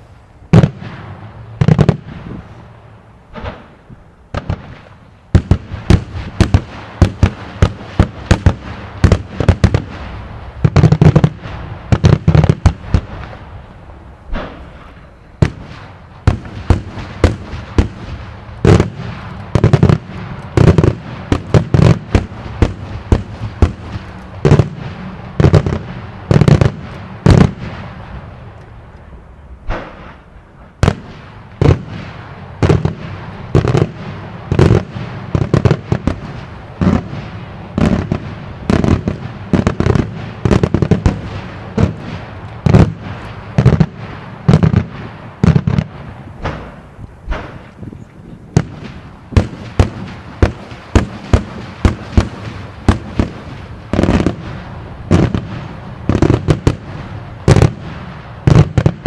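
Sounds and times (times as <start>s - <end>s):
fireworks bursting with sharp bangs: 0.0s - 59.0s.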